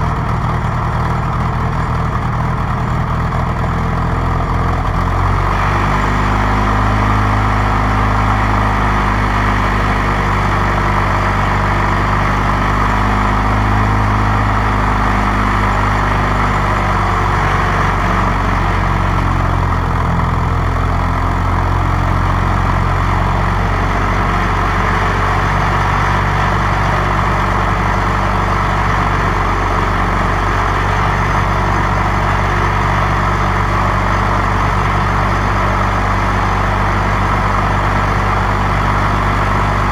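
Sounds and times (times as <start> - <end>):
tractor engine running at low speed: 0.0 - 39.9.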